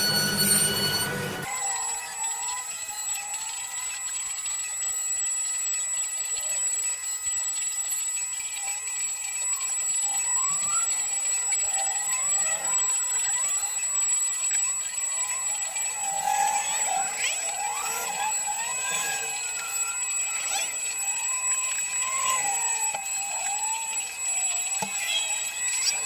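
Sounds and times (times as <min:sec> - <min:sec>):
axis motors whining: 0:00.0 - 0:26.0
router spindle whine: 0:00.0 - 0:26.0.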